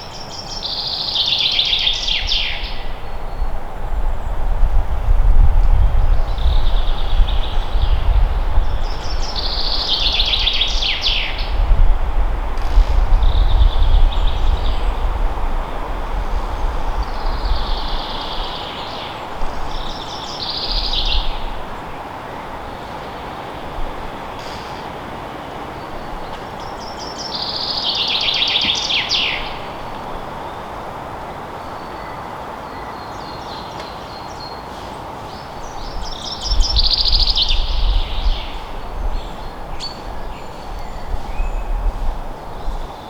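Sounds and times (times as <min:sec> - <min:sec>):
forest birds singing: 0:00.0 - 0:43.0.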